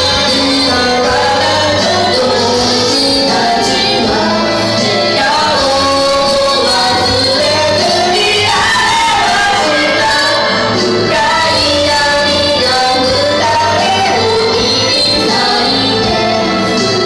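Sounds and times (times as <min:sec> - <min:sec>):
karaoke backing track: 0:00.0 - 0:17.0
woman singing: 0:00.0 - 0:17.0.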